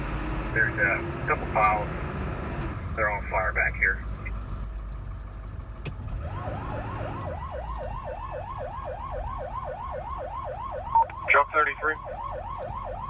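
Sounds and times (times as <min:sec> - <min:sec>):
low engine rumble: 0:00.0 - 0:13.0
siren yelping: 0:00.5 - 0:13.0.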